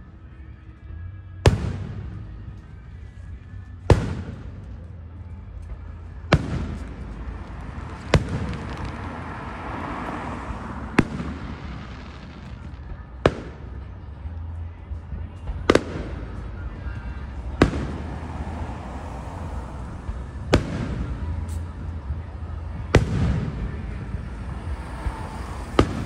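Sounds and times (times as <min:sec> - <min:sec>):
fireworks bangs: 0:01.4 - 0:26.0.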